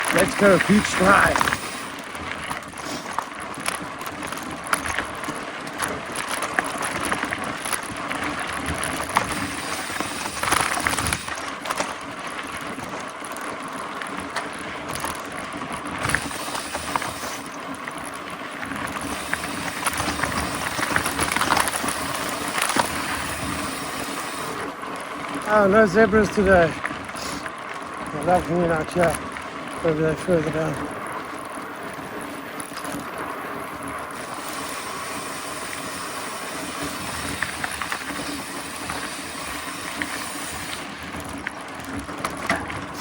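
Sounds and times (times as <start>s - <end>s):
bicycle drivetrain rattling: 0.0s - 43.0s
bicycle freehub ratchet clicking: 0.0s - 43.0s
tyre and wind noise: 0.0s - 43.0s.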